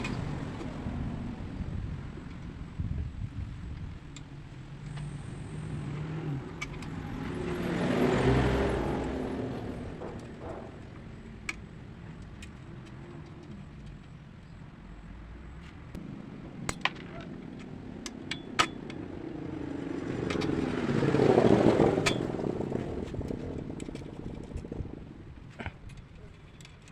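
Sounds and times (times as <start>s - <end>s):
vehicle passing by: 0.0s - 13.6s, 15.0s - 25.7s.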